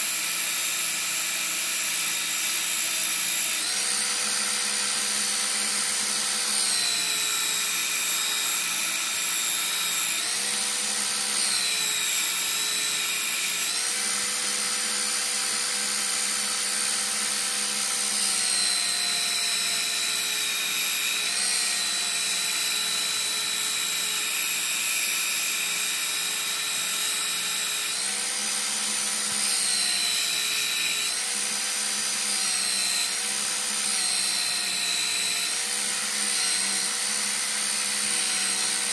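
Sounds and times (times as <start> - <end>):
belt sander grinding blade: 0.0 - 38.9.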